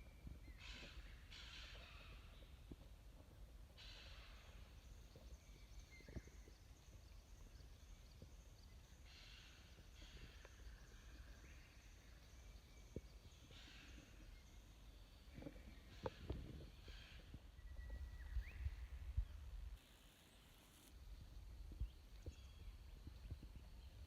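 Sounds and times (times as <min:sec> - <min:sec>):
faint river ambience: 0:00.0 - 0:24.0.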